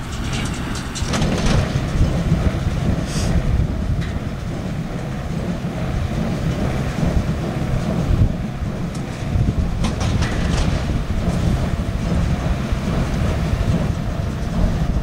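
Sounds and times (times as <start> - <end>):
hay baler running: 0.0 - 15.0
tractor engine running: 0.0 - 15.0
wind rumble on microphone: 0.0 - 15.0.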